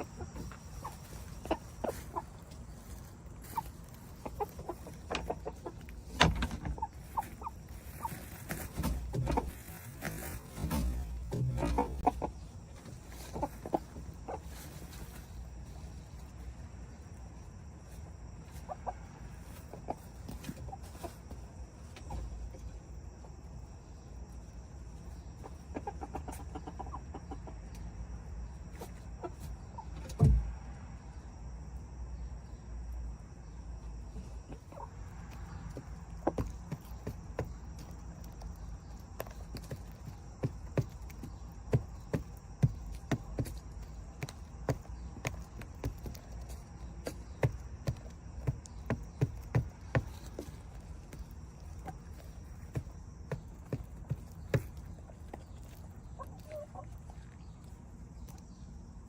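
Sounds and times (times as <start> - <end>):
chickens clucking: 0.0 - 16.4, 18.0 - 23.4, 24.9 - 28.0, 28.7 - 30.2, 34.0 - 58.9.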